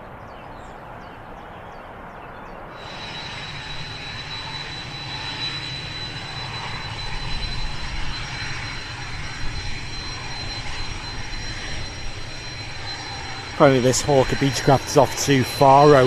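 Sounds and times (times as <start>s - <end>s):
jet engines whining and rumbling: 1.9s - 16.0s.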